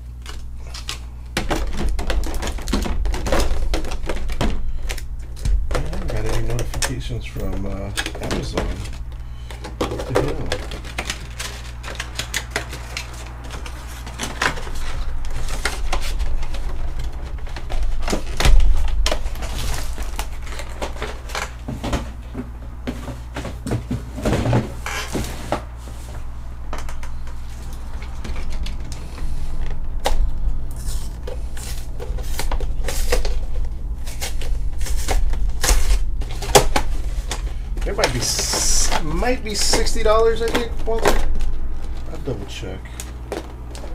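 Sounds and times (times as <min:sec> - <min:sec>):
packaging clicks and crinkles: 0:00.0 - 0:21.7, 0:26.2 - 0:43.9
steady low hum: 0:00.0 - 0:43.9.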